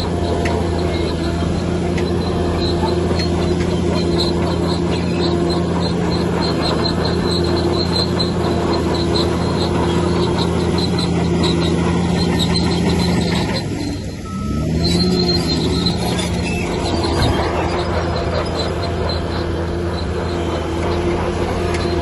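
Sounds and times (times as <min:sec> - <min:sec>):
bulldozer diesel engine: 0:00.0 - 0:22.0
crawler tracks squeaking: 0:00.0 - 0:22.0.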